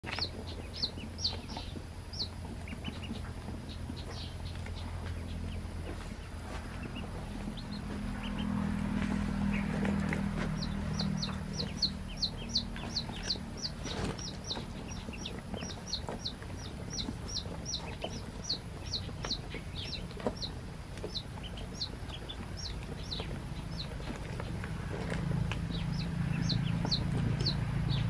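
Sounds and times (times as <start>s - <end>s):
ducklings peeping: 0.0s - 28.0s
low steady hum: 0.0s - 28.0s.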